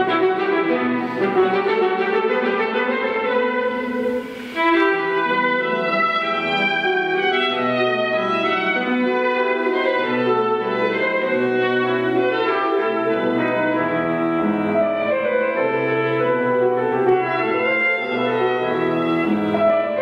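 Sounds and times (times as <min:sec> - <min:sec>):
brass long notes: 0:00.0 - 0:20.0.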